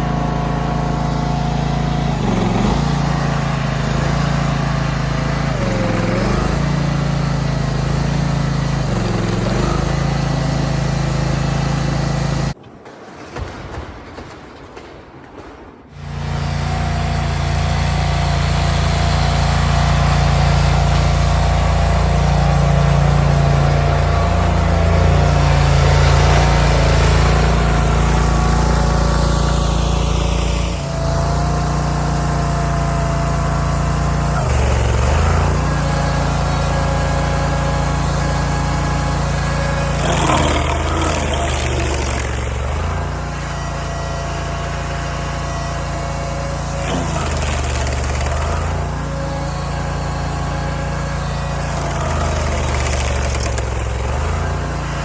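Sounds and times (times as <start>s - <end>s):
stump grinder engine running: 0.0s - 12.6s, 15.9s - 55.0s.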